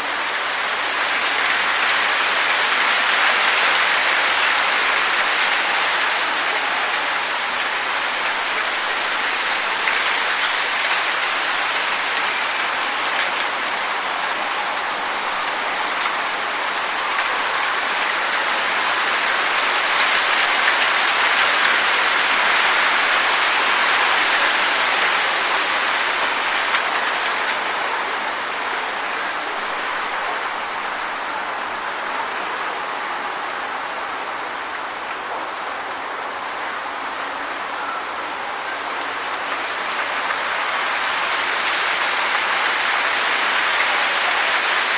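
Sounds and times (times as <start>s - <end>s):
wind rustling tree leaves: 0.0s - 44.9s.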